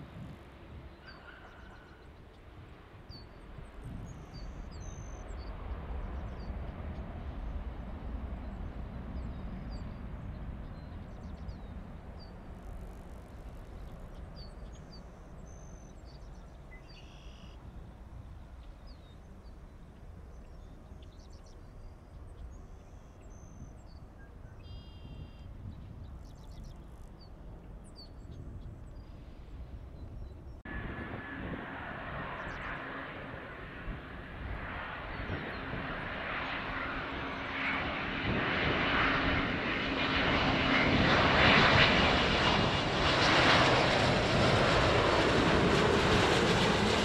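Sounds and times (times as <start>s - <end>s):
distant jet engine rumble: 0.0s - 47.0s.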